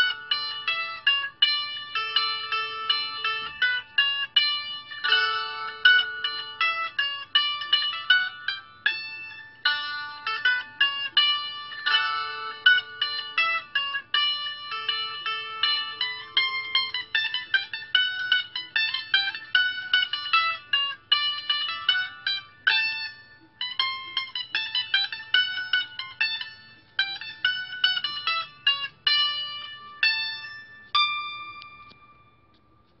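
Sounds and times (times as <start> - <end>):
mandolin playing folk tune: 0.0 - 33.0.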